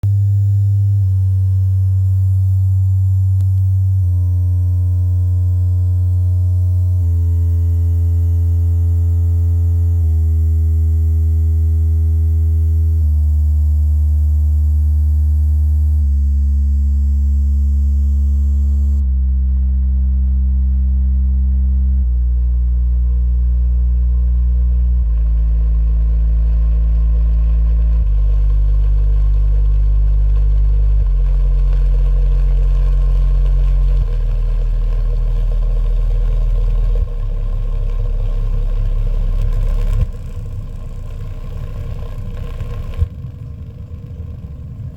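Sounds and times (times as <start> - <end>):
subwoofer bass test tone: 0.0 - 44.9.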